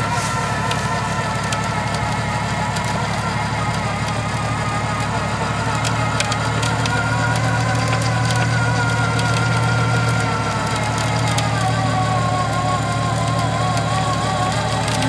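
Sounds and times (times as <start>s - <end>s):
off-road vehicle engine running: 0.0s - 15.0s
sharp cracks and clicks: 0.0s - 15.0s.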